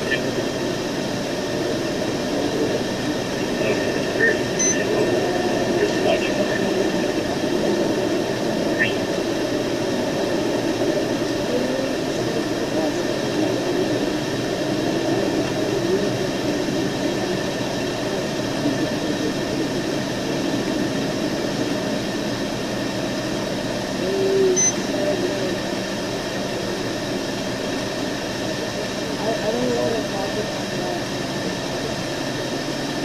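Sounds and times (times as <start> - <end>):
faint muffled voices: 0.0 - 33.0
vehicle running rumble: 0.0 - 33.0.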